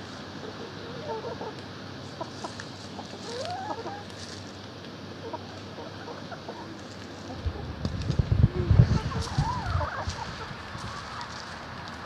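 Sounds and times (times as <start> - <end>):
hens clucking: 0.2 - 12.0.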